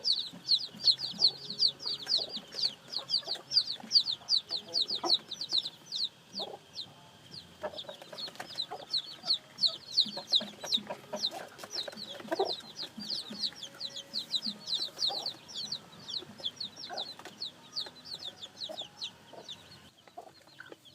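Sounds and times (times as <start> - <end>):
adult chickens clucking: 0.0 - 20.9
chicks peeping: 0.0 - 20.9.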